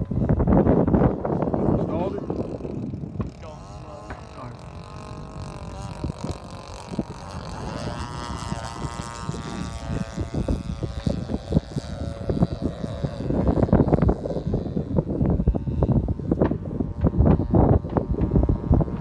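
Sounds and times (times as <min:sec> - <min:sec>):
model airplane engine drone: 0:00.0 - 0:19.0
wind buffeting microphone: 0:00.0 - 0:19.0.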